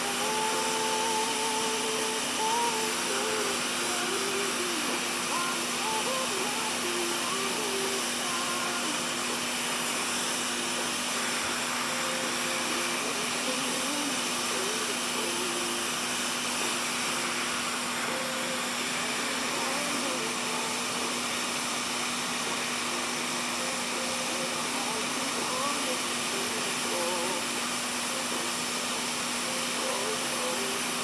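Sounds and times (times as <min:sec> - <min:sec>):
blower air hiss: 0:00.0 - 0:31.0.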